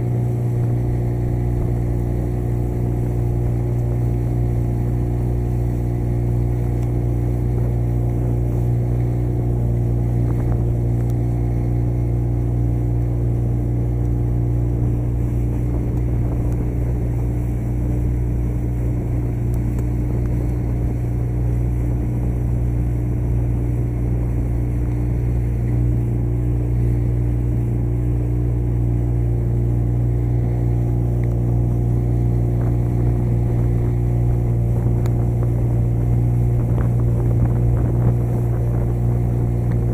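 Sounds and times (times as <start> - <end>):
motorboat engine humming: 0.0 - 39.9.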